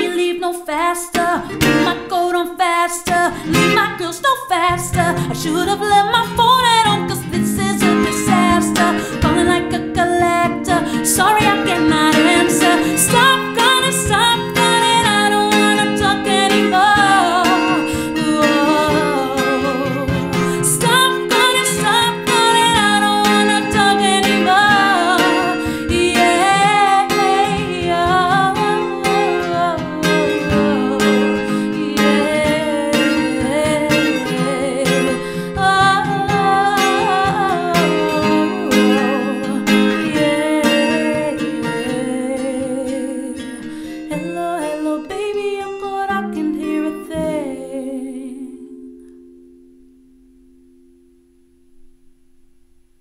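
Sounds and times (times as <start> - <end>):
woman singing: 0.0 - 49.1
acoustic guitar strumming: 0.0 - 53.0.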